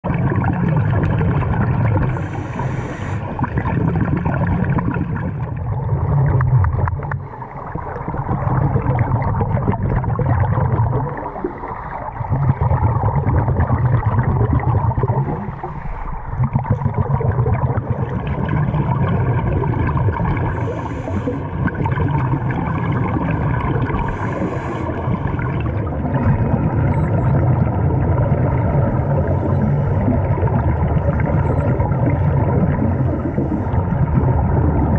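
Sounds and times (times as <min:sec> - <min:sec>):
scuba regulator bubbles: 0:00.0 - 0:34.9
underwater rush of water: 0:00.0 - 0:34.9.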